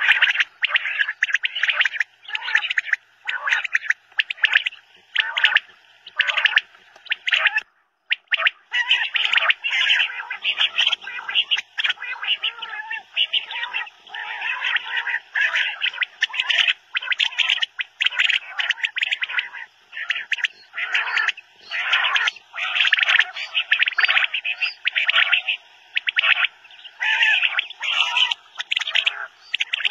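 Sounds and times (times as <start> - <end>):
quail calling: 0.0 - 29.9.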